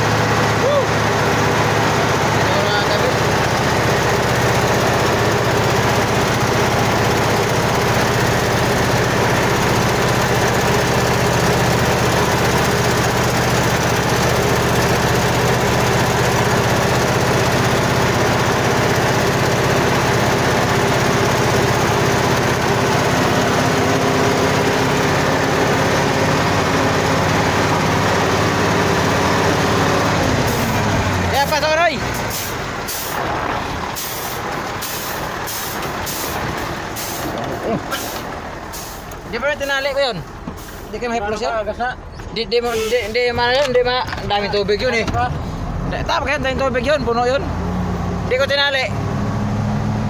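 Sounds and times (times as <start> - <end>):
road noise: 0.0 - 50.0
truck engine running: 0.0 - 50.0.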